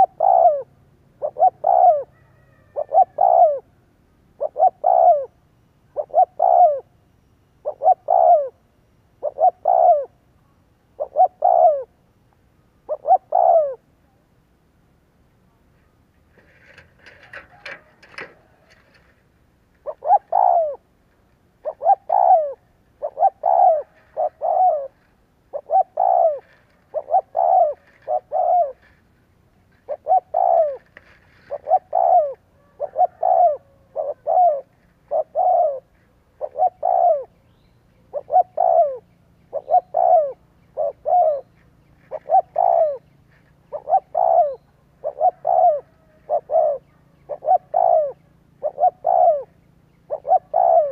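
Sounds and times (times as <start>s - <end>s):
dove cooing: 0.0s - 7.0s, 7.6s - 12.0s, 12.8s - 14.2s, 15.8s - 50.9s.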